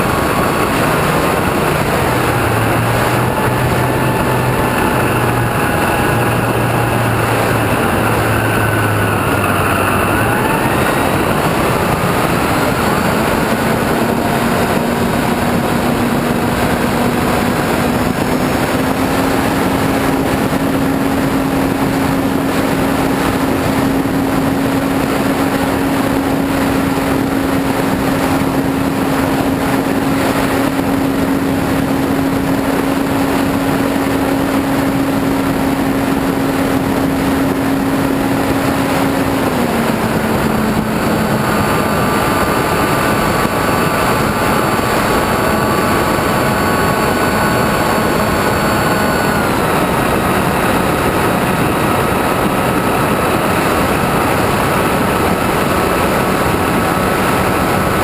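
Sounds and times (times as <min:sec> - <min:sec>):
model airplane motor droning: 0:00.0 - 0:58.0
wind rushing over microphone: 0:00.0 - 0:58.0.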